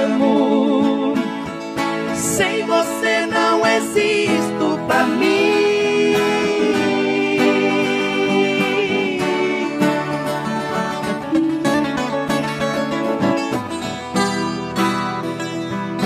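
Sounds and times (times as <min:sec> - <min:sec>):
acoustic guitar strumming: 0:00.0 - 0:16.0
viola caipira: 0:00.0 - 0:16.0.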